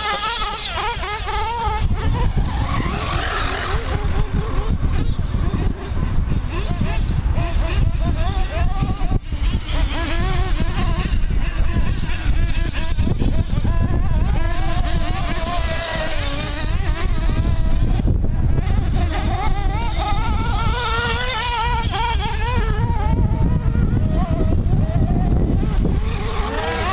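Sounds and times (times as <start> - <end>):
model car engines buzzing: 0.0 - 26.9.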